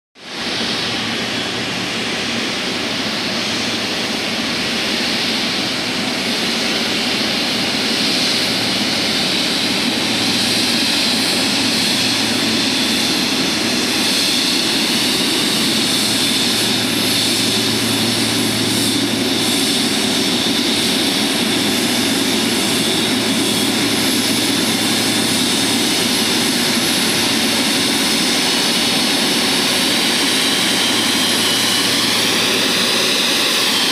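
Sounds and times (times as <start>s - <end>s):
jet engines running: 0.2s - 33.9s.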